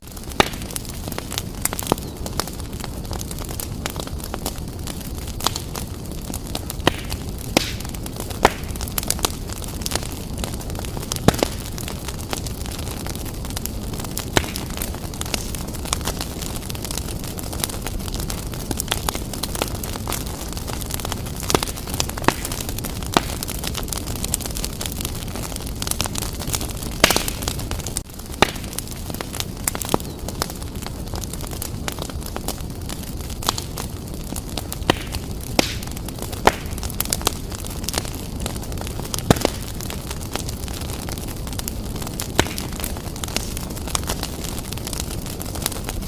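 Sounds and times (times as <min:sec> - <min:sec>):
logs crackling and popping: 0:00.0 - 0:46.0
wood fire burning: 0:00.0 - 0:46.0.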